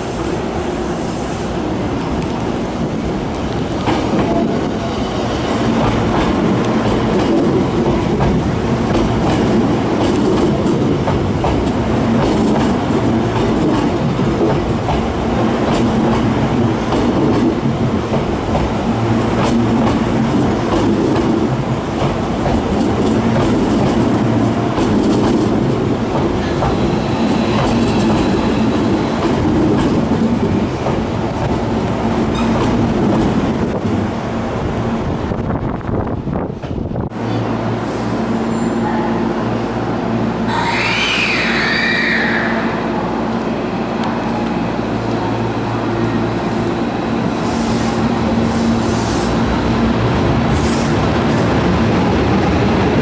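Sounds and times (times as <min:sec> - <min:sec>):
electric train rolling: 0:00.0 - 0:53.0.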